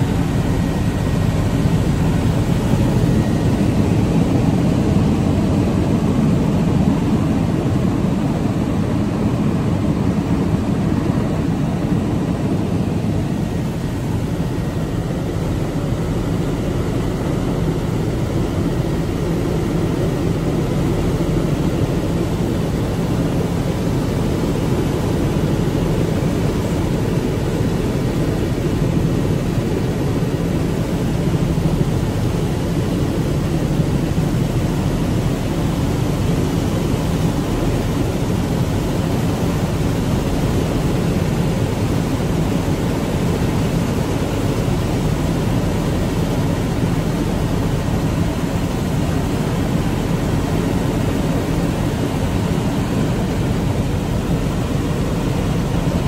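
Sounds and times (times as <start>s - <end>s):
small aircraft engine drone: 0.0s - 56.0s.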